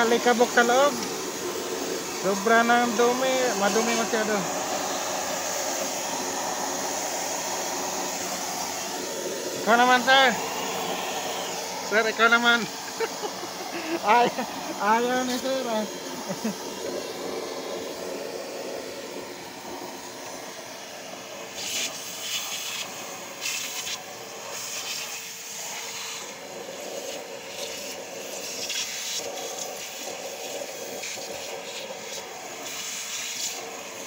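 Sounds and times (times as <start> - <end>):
air rushing at vacuum nozzle: 0.0 - 34.0
shop vacuum motor whine: 0.0 - 34.0.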